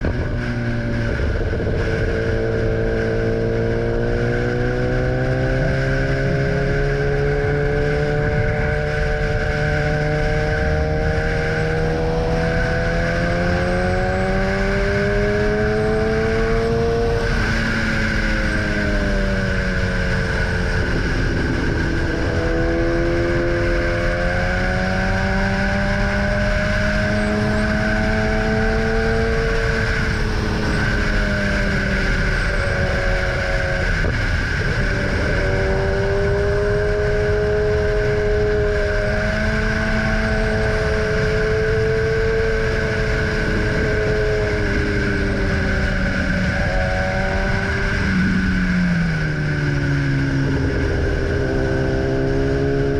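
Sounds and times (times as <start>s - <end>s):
motorcycle engine revving: 0.0s - 52.9s
wind noise: 0.0s - 52.9s.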